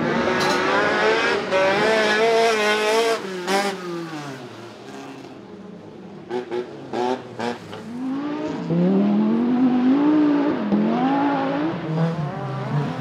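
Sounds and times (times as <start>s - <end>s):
car engine revving hard: 0.0s - 4.4s, 6.3s - 13.0s.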